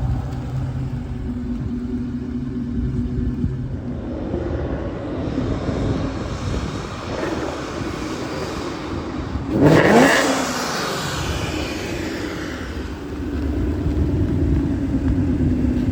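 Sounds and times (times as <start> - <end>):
car exhaust rumbling and revving: 0.0 - 15.9.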